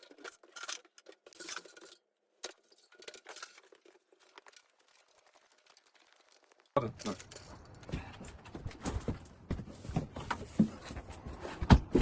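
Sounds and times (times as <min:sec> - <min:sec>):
faint clatter and rustling: 0:00.0 - 0:11.2.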